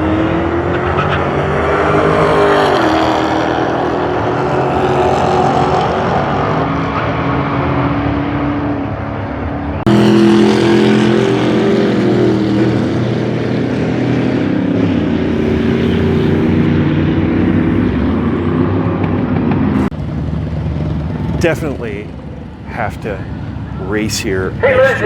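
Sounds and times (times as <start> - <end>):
loud car engines running: 0.0 - 25.0.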